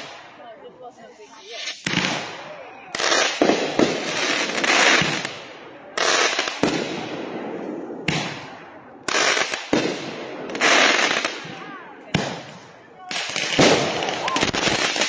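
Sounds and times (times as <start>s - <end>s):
firework bangs: 1.3s - 15.0s.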